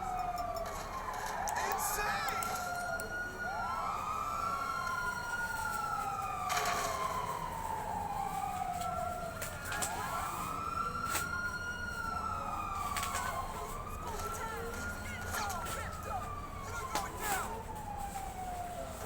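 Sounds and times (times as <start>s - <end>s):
wailing siren: 0.0s - 19.0s.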